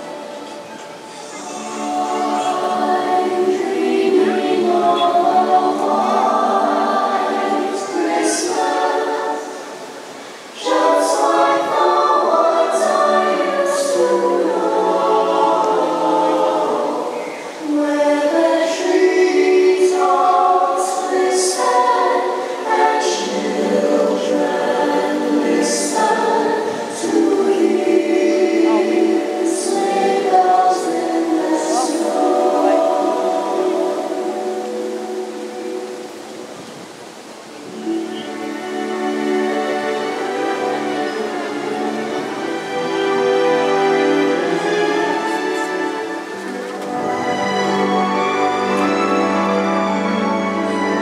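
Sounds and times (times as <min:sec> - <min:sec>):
choir singing over sound system: 0:00.0 - 0:51.0.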